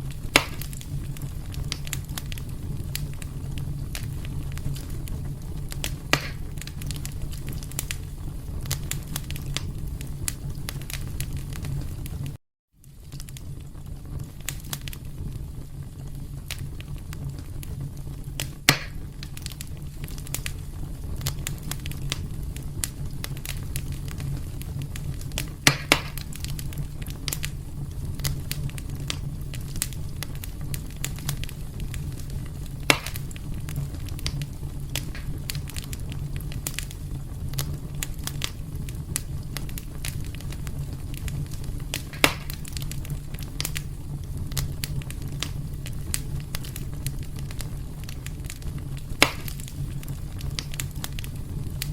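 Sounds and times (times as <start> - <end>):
fire crackling: 0.0 - 51.9
loud fire pops: 0.0 - 51.9
low rumble of flames: 0.0 - 51.9.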